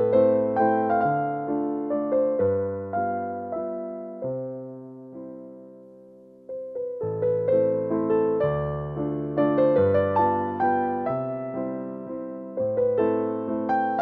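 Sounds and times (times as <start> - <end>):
gentle solo piano melody: 0.0 - 14.0.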